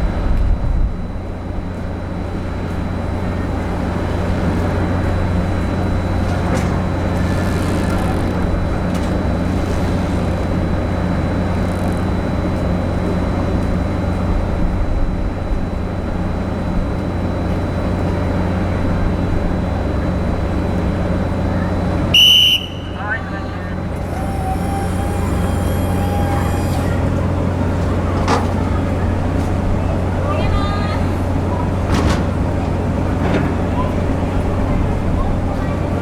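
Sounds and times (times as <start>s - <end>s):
ship diesel engines droning: 0.0s - 36.0s.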